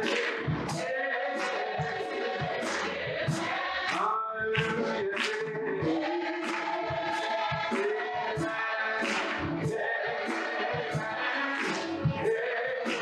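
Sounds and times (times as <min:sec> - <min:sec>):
gospel choir singing held notes: 0:00.0 - 0:13.0
steady beat: 0:00.0 - 0:13.0.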